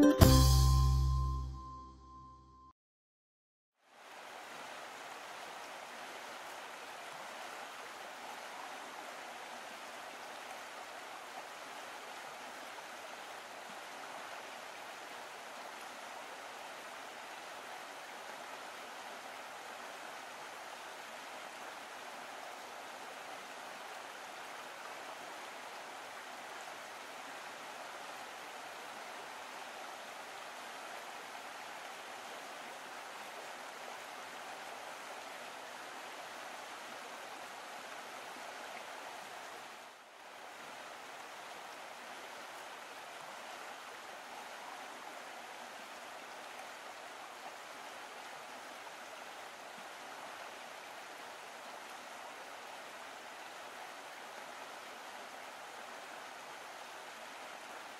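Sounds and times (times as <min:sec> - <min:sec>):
stream water flowing: 0:03.8 - 0:57.9.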